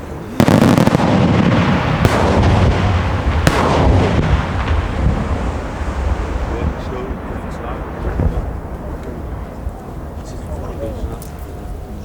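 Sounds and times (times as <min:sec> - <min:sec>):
sharp fireworks bangs: 0:00.0 - 0:10.1
fireworks crackling and booming: 0:00.0 - 0:11.9.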